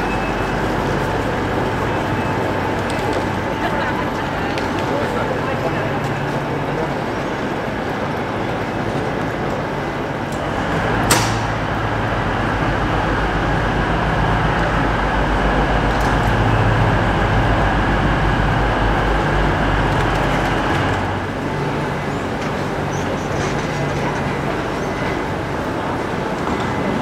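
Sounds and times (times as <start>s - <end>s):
station concourse rumble and hum: 0.0s - 27.0s.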